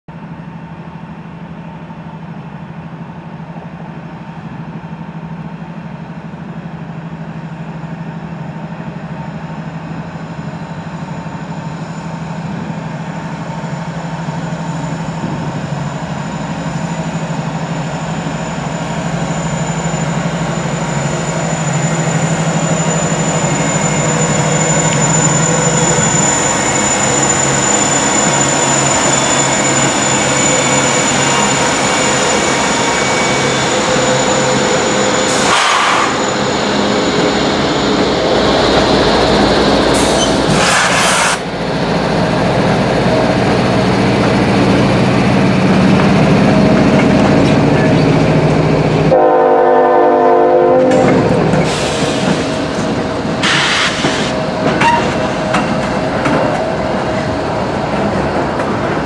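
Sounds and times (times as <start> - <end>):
diesel locomotive engine drone: 0.1 - 59.0.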